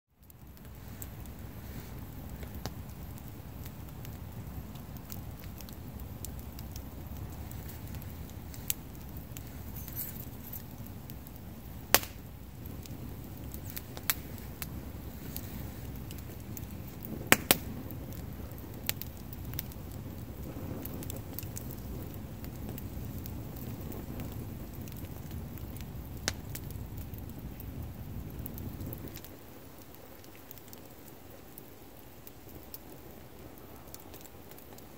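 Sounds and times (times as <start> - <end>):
low rumble of flame: 0.1 - 34.9
wood crackling and popping: 0.1 - 34.9.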